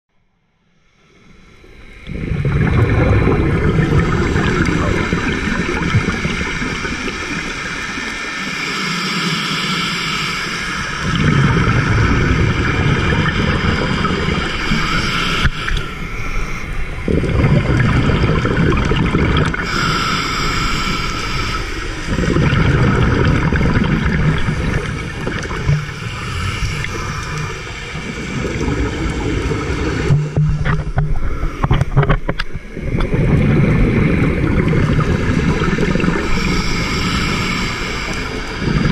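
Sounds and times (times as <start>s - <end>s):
exhaled bubbles rumbling: 1.8s - 8.4s, 10.8s - 38.9s
regulator hissing inhale: 4.4s - 17.1s, 19.5s - 30.2s, 31.0s - 38.9s.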